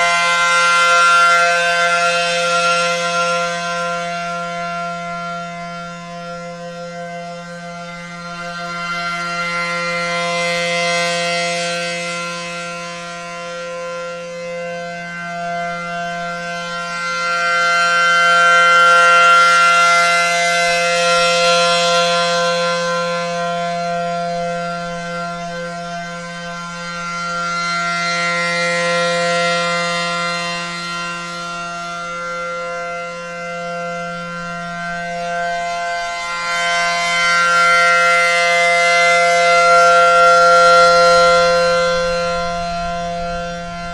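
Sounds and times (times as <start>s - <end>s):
rotating warning siren: 0.0s - 43.9s.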